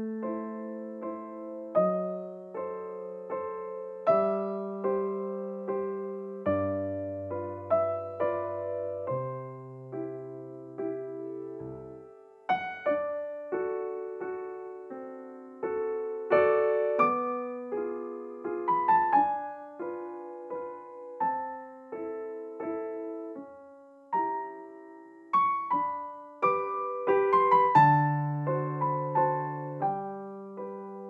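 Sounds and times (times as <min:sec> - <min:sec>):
gentle solo piano piece: 0:00.0 - 0:31.0.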